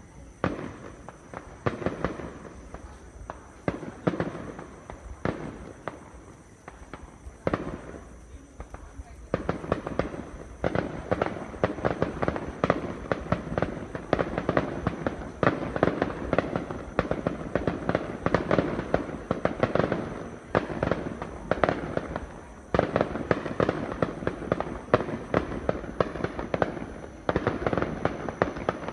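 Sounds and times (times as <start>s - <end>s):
fireworks banging and crackling: 0.0s - 28.9s.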